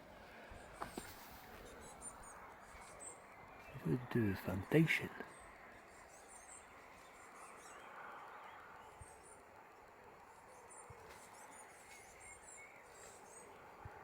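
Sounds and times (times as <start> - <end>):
small birds chirping: 0.4 - 14.0.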